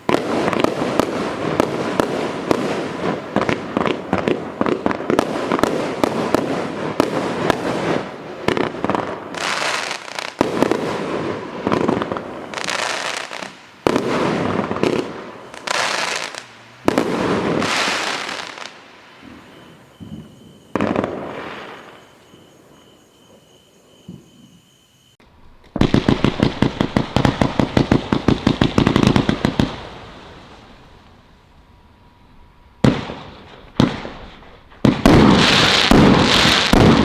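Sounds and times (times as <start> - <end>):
fireworks banging: 0.0 - 31.0, 32.8 - 37.0
hissing crackle of fireworks: 0.0 - 37.0.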